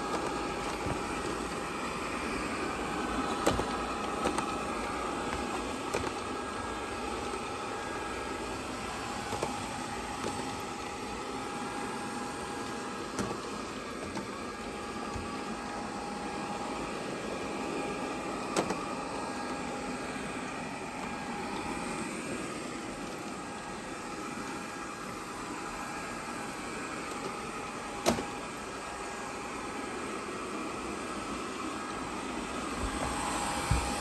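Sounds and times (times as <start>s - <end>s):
robot vacuum whirring: 0.0s - 34.0s.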